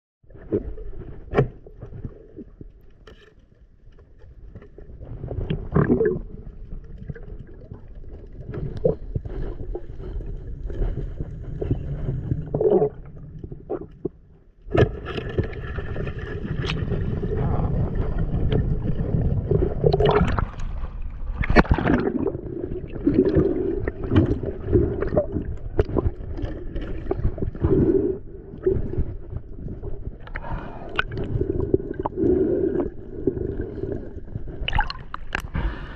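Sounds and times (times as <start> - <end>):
underwater water rushing and gurgling: 0.3 - 35.9.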